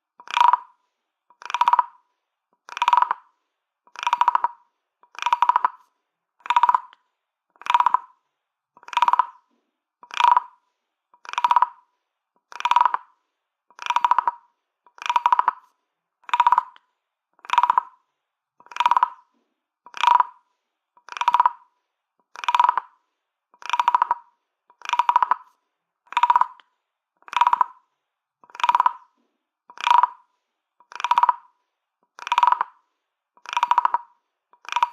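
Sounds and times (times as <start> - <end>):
wooden toy frog croaking: 0.2 - 8.2, 8.8 - 18.0, 18.6 - 20.4, 21.0 - 32.8, 33.4 - 34.9.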